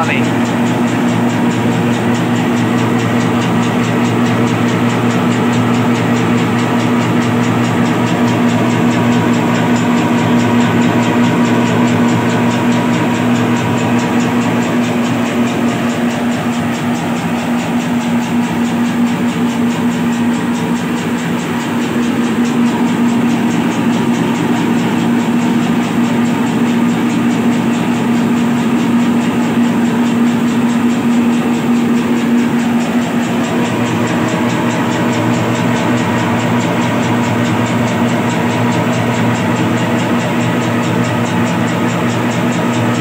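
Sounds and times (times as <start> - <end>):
machine motor hum with rattle: 0.0 - 43.0.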